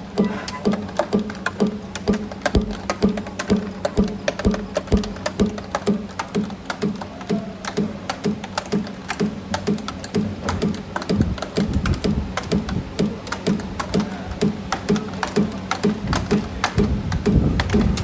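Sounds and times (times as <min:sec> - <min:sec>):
low machine knocks: 0:00.0 - 0:18.0
motor hum: 0:00.0 - 0:18.0
sharp metallic clicks: 0:00.0 - 0:18.0.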